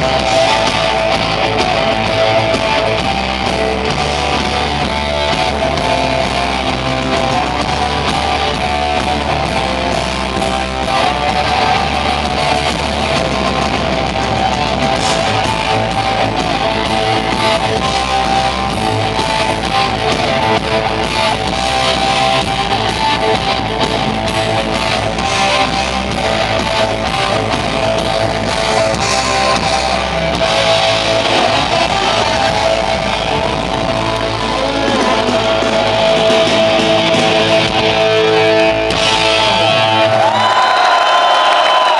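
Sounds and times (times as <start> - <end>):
bass and drums: 0.0 - 41.9
distorted electric guitars: 0.0 - 41.9.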